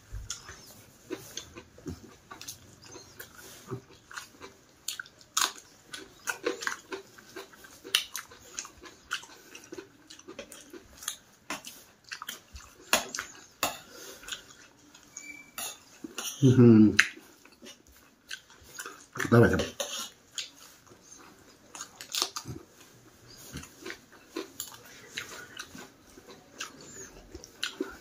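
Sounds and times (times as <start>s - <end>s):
person chewing and lip-smacking: 0.1s - 28.0s.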